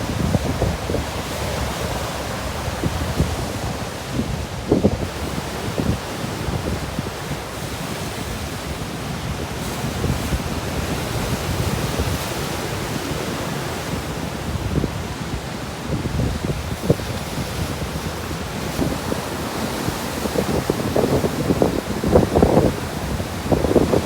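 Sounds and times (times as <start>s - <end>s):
sea surf washing ashore: 0.0s - 24.0s
wind buffeting microphone: 0.0s - 24.0s.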